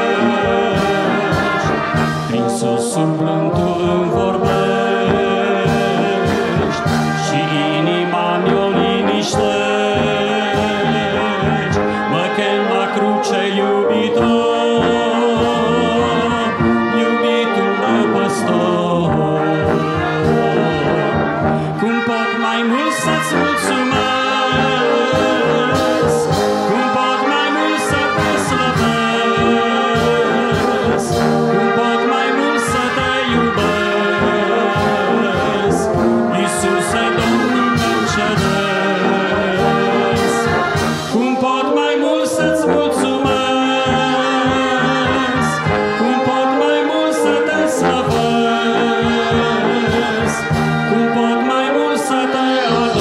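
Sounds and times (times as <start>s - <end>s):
brass band playing a hymn: 0.0s - 53.0s.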